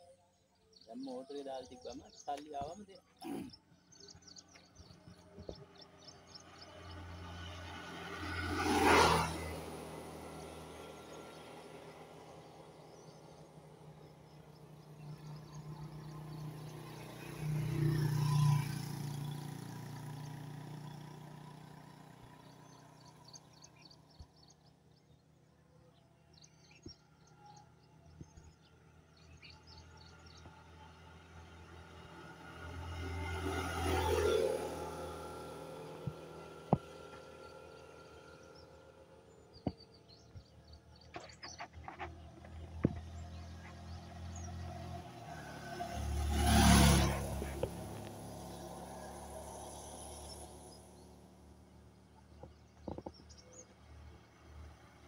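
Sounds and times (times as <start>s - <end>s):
small birds chirping: 0.0s - 55.0s
vehicle engine humming: 0.9s - 55.0s.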